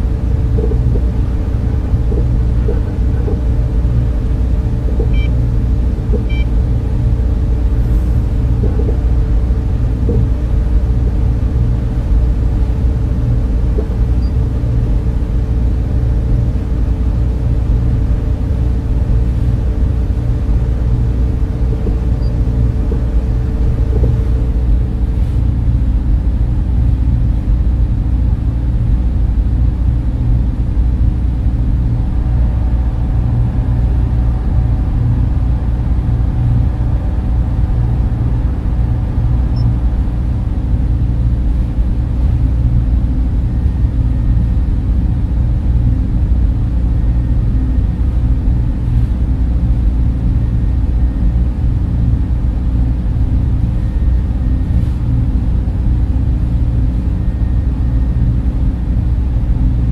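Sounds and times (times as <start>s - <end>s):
cooling fans whirring: 0.0s - 59.9s
faint hum of tones: 0.0s - 59.9s.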